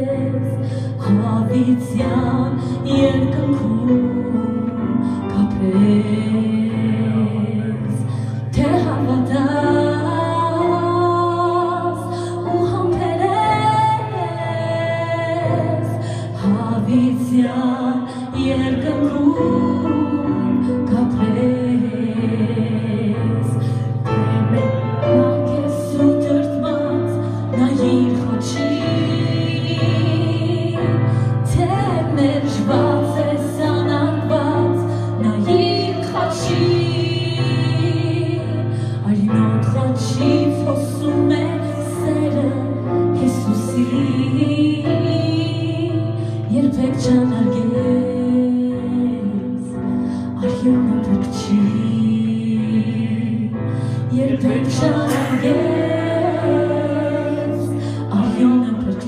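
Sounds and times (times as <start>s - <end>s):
woman singing worship song: 0.0s - 59.0s.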